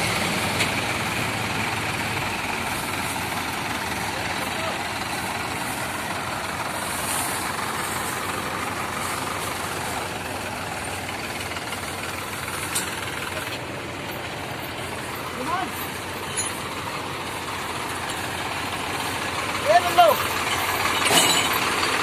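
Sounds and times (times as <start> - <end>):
tractor diesel engines droning: 0.0 - 22.0.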